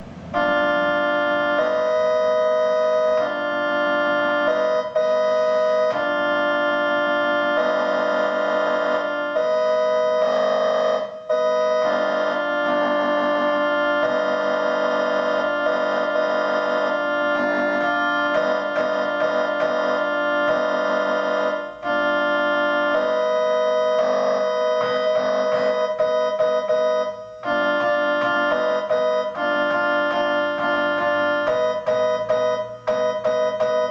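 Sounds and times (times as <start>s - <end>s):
electronic keyboard organ chords: 0.0s - 33.9s.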